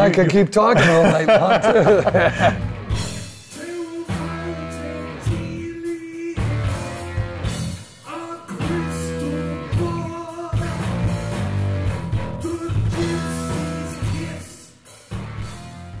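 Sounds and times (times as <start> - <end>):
bass guitar: 0.8 - 16.0
drums: 0.8 - 16.0
distorted electric guitar: 1.5 - 16.0.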